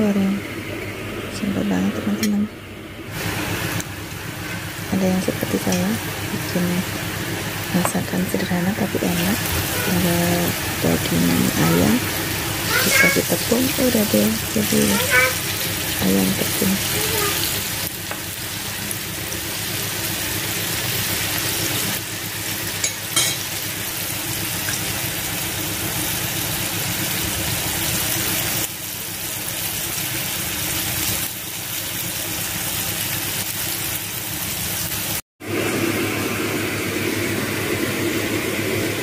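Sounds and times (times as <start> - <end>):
chicken deep-frying in oil: 3.1 - 39.0.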